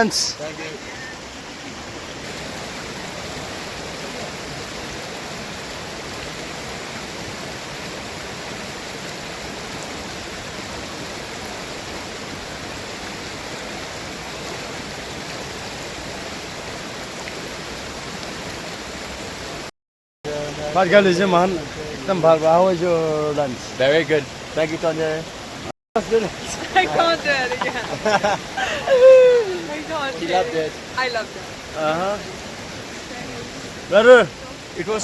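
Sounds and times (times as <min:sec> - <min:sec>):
stream water rushing: 0:00.0 - 0:19.7, 0:20.3 - 0:35.0.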